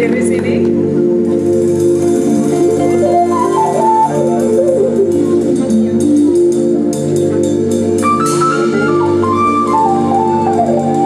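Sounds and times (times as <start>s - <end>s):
lead melody: 0.0s - 11.0s
organ-like keyboard chords: 0.2s - 11.0s
drums with cymbal strokes: 1.3s - 11.0s.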